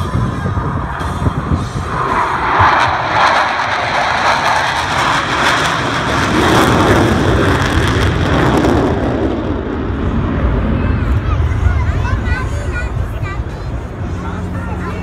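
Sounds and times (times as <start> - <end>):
jets flying low: 0.0 - 15.0.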